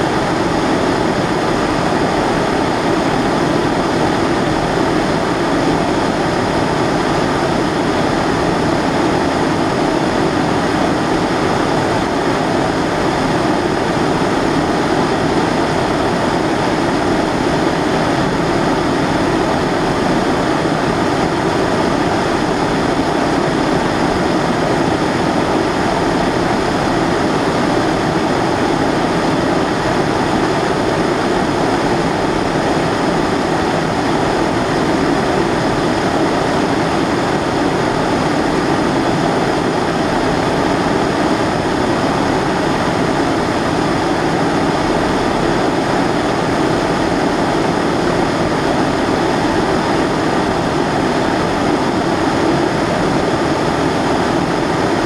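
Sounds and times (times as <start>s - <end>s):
pressure stove flame roaring: 0.0s - 55.0s.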